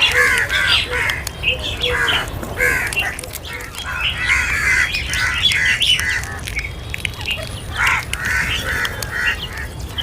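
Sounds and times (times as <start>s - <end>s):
crows cawing: 0.0s - 6.5s, 7.7s - 9.8s.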